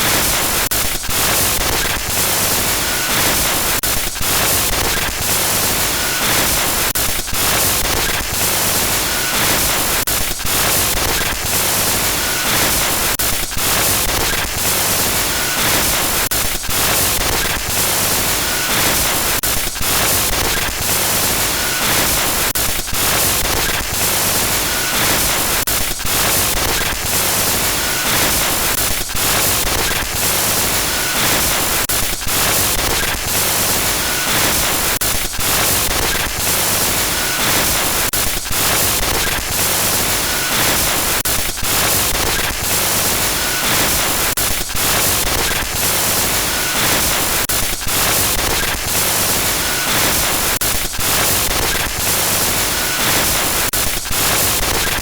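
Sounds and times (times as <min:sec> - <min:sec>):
loud glitchy static: 0:00.0 - 0:55.0.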